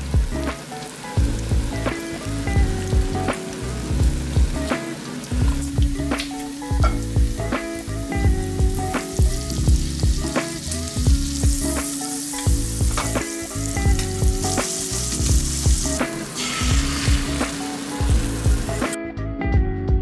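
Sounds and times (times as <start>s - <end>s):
butter sizzling in frying pan: 0.0s - 19.0s
background music with steady beat: 0.0s - 20.0s.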